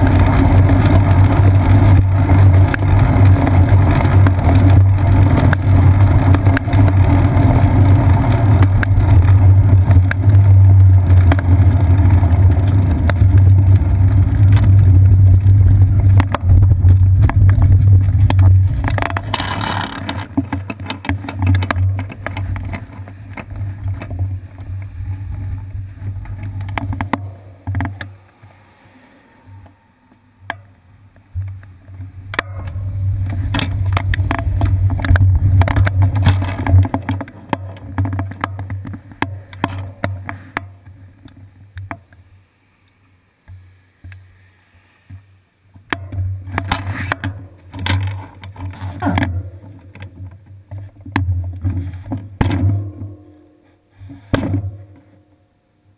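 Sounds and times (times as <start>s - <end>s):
bicycle clicks and rattles: 0.0s - 28.5s, 30.4s - 42.2s, 45.8s - 53.2s
road rumble: 0.0s - 55.9s
wind: 0.0s - 55.9s.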